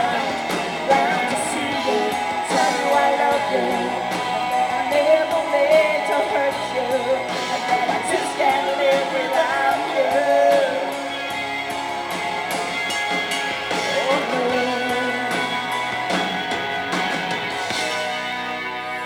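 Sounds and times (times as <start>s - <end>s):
rock band playing live: 0.0s - 19.0s
wavering melodic lead line: 0.0s - 19.0s.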